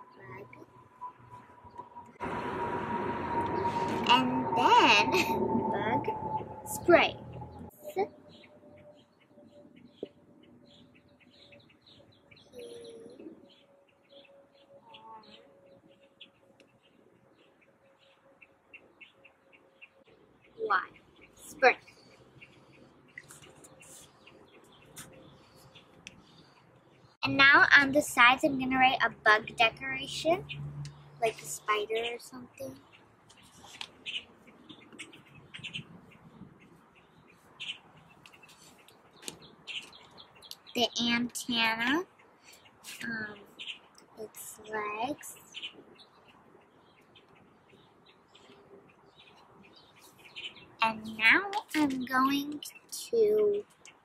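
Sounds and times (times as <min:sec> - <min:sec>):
small birds chirping: 0:04.5 - 0:54.0.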